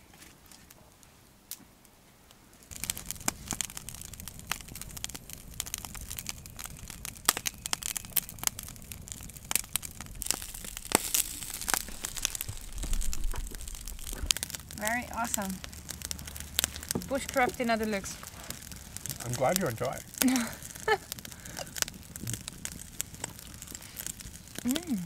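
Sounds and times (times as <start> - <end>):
food sizzling in oil with pops: 2.7 - 25.0.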